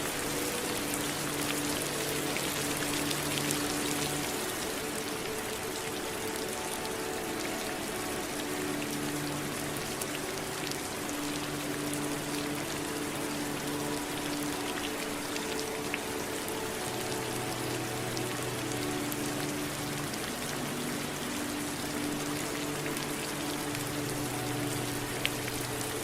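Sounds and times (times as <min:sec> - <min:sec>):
soft low ambient drone: 0:00.0 - 0:26.0
steady rain pattering: 0:00.0 - 0:26.0.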